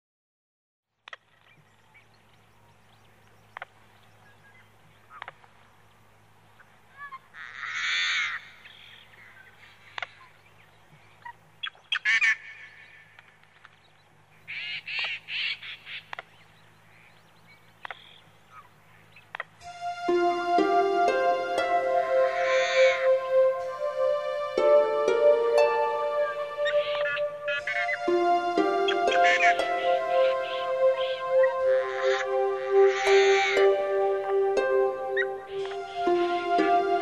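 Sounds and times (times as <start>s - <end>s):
birds calling: 1.2s - 19.6s, 22.0s - 33.9s.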